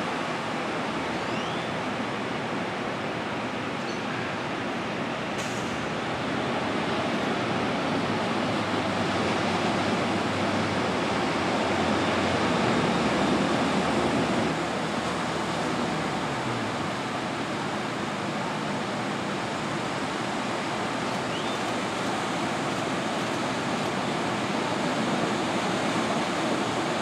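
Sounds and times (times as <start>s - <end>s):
surf washing onto sandy beach: 4.5s - 27.0s.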